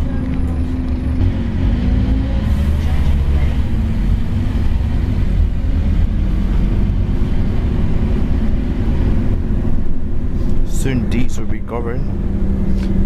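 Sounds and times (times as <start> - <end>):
bus diesel engine drone: 0.0 - 13.0
road noise: 0.0 - 13.0.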